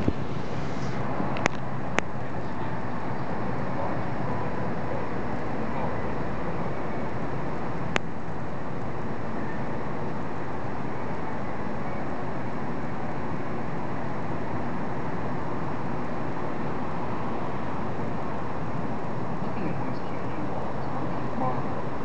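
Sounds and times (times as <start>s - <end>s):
steady outdoor rushing noise: 0.0s - 22.0s.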